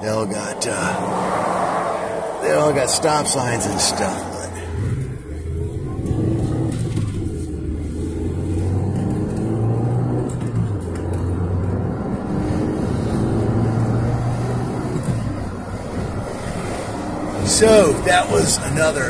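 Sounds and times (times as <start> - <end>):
car engine and road noise hum: 0.0 - 19.0.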